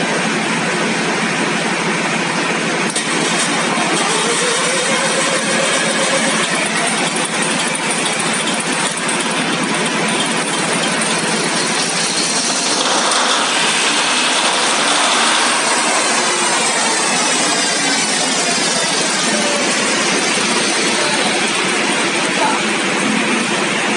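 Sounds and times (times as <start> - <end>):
engine mechanical clatter: 0.0 - 23.9.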